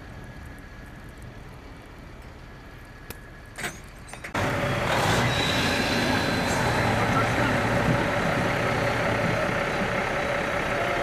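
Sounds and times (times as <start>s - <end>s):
loud noise with high whine: 0.0s - 11.0s
low rumble of traffic: 0.0s - 11.0s.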